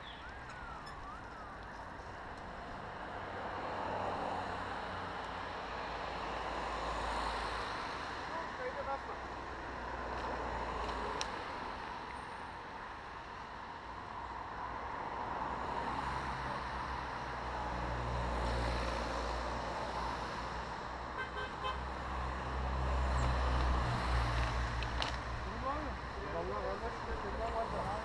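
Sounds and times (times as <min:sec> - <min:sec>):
road traffic passing: 0:00.0 - 0:28.0.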